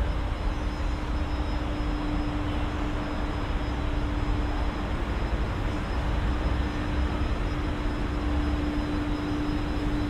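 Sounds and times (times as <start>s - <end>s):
constant low hum: 0.0s - 10.0s
highway traffic noise: 0.0s - 10.0s.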